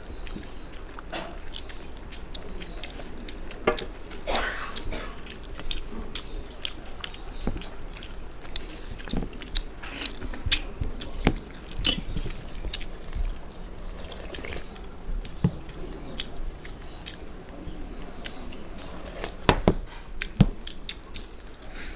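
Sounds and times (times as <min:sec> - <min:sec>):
chewing food: 0:00.0 - 0:21.9.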